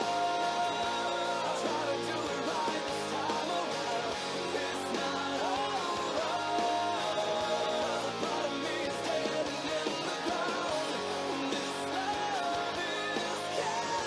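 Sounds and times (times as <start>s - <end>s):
pop-rock song with guitar and singing: 0.0s - 14.0s.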